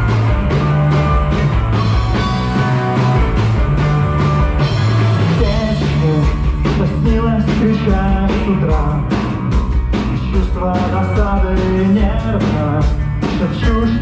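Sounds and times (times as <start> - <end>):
bass line: 0.0 - 14.0
drum hits: 0.0 - 14.0
rock band playing live: 0.0 - 14.0.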